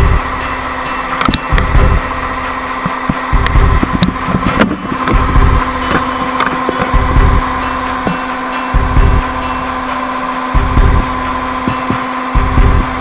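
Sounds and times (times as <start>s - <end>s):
diesel engine running: 0.0s - 13.0s
low rumbles: 0.0s - 13.0s.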